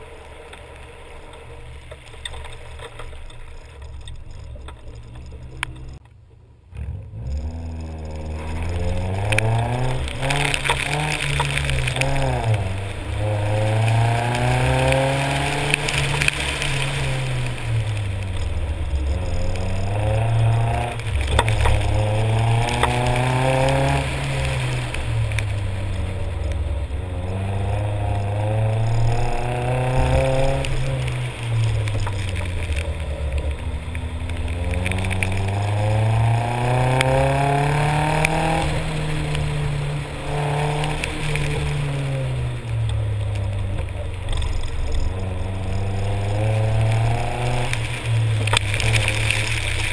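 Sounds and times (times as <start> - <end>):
car engine revving: 0.0 - 6.0, 6.6 - 49.9.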